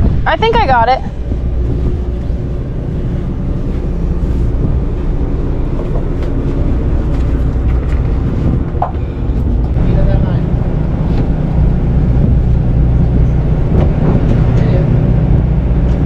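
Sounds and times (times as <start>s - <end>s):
boat engines rumbling: 0.0s - 16.0s.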